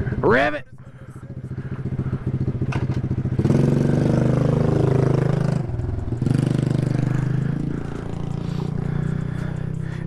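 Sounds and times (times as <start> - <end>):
small engine revving: 1.5 - 10.0.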